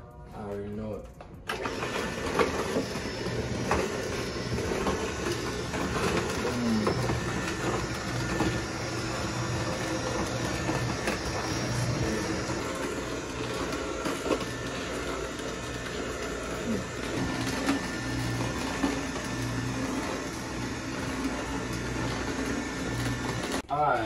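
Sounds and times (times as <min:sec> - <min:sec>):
juicer grinding: 0:01.5 - 0:24.0
juicer motor hum: 0:01.5 - 0:24.0.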